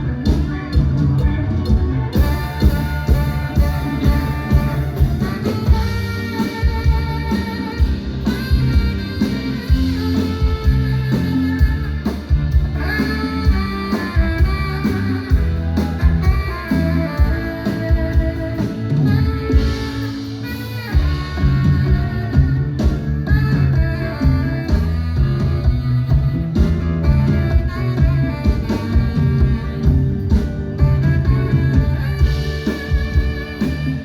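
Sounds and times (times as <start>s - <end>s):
bass: 0.0s - 34.0s
drums: 0.0s - 34.0s
guitar: 0.0s - 34.0s.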